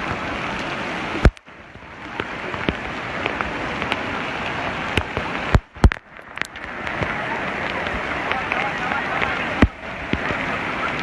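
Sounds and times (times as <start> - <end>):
heavy rain hissing: 0.0 - 11.0
raindrop impacts: 0.0 - 11.0.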